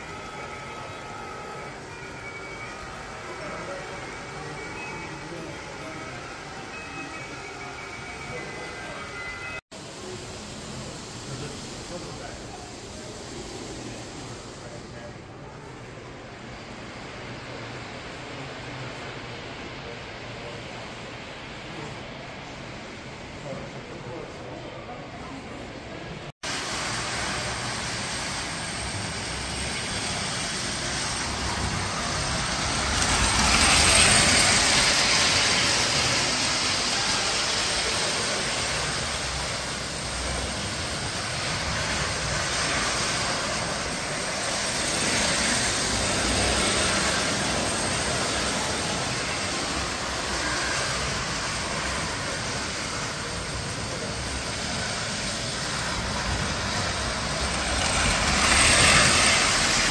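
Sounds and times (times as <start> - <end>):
model trains rumbling on track: 0.0 - 59.9.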